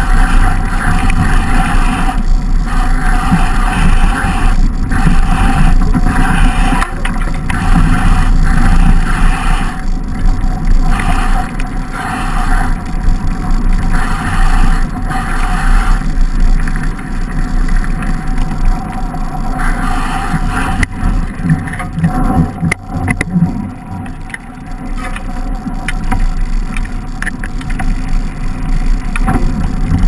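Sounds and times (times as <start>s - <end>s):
tyre vibration on snow: 0.0s - 30.0s
wind rumble: 0.0s - 30.0s.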